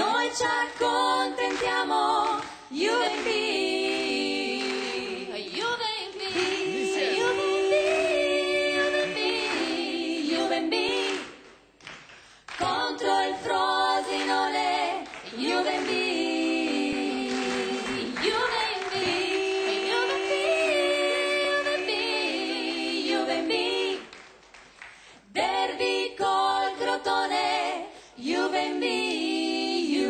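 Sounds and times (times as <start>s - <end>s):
women singing in harmony: 0.0s - 11.7s, 12.5s - 24.2s, 25.2s - 30.0s.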